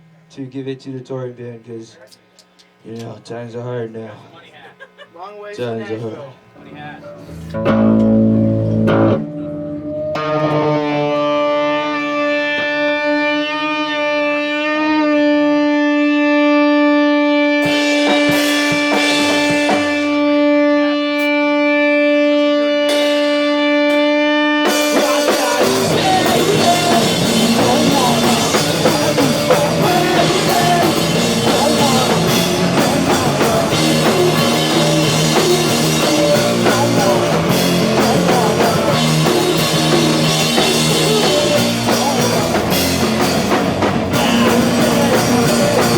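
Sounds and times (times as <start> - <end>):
sustained guitar tone: 5.6 - 45.9
rock band playing: 6.7 - 45.9.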